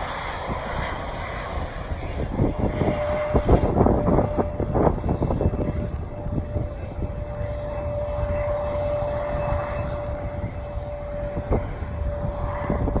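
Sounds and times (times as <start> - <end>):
airplane engine whining: 0.0 - 13.0.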